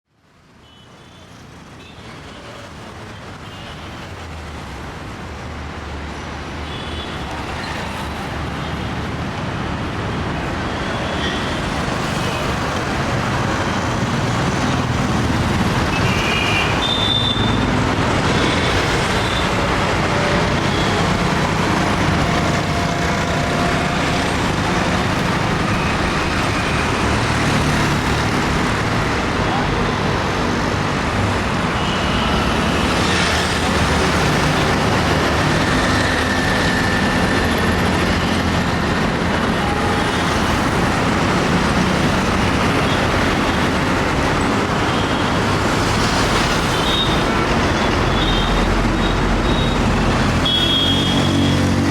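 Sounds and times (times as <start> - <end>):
road traffic: 0.1 - 51.9
heavy vehicles rumbling: 1.4 - 51.9.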